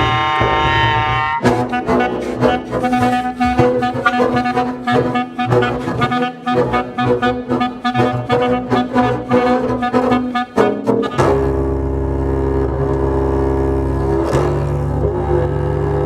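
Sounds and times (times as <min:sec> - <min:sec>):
clarinet: 0:00.0 - 0:16.0
double bass: 0:00.0 - 0:16.0.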